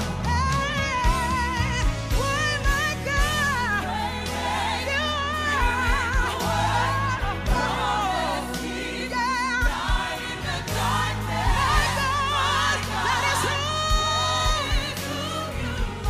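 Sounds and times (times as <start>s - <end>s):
gospel choir singing: 0.0s - 16.0s
keyboard and bass: 0.0s - 16.0s.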